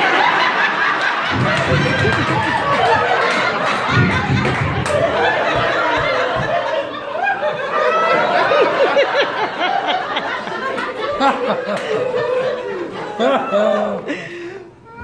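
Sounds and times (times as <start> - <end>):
audience laughing: 0.0 - 14.5.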